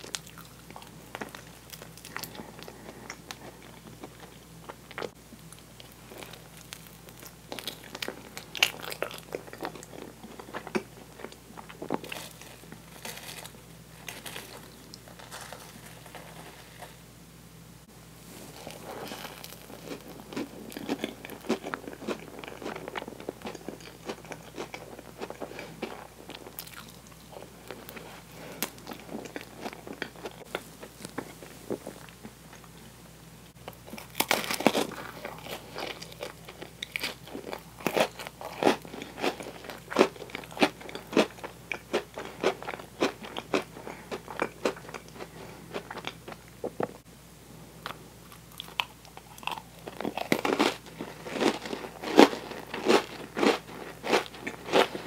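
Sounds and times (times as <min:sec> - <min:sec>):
chewing sticky food: 0:00.0 - 0:16.5, 0:18.6 - 0:32.9, 0:33.6 - 0:47.0, 0:47.8 - 0:55.0.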